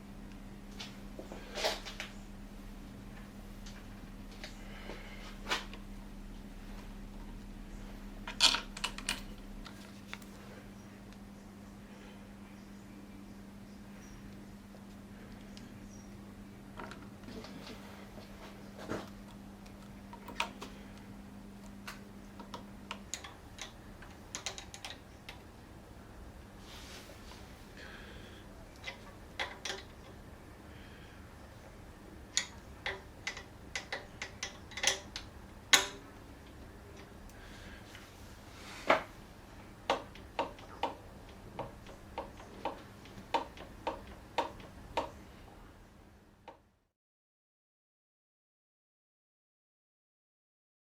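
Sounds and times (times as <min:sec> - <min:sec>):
faint low hum: 0:00.0 - 0:46.9.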